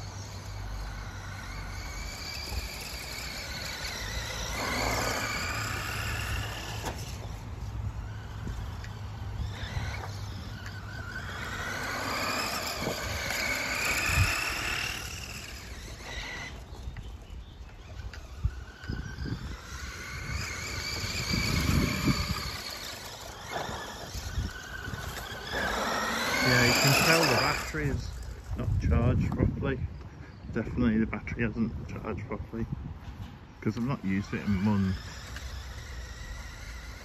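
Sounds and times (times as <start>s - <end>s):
electric motor whining: 0.0s - 29.4s, 33.6s - 37.0s.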